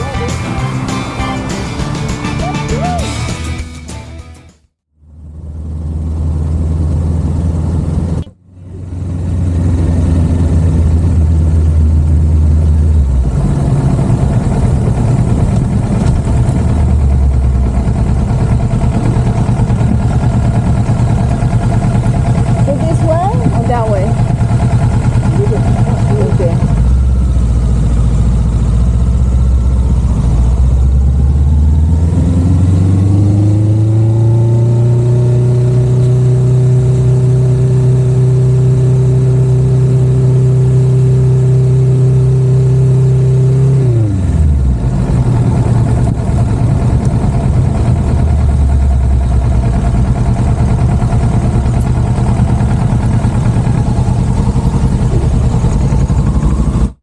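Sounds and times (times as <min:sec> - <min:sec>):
motorcycle engine accelerating: 0:05.0 - 0:57.0
road and wind noise: 0:05.0 - 0:57.0.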